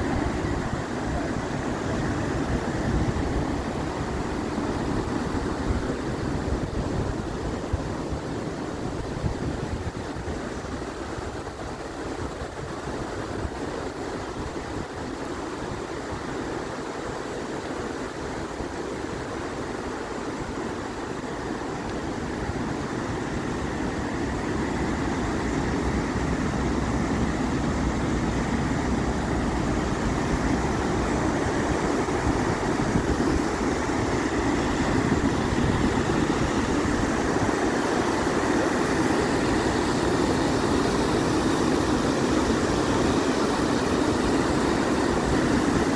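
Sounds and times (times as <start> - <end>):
river rapids rushing: 0.0 - 45.9.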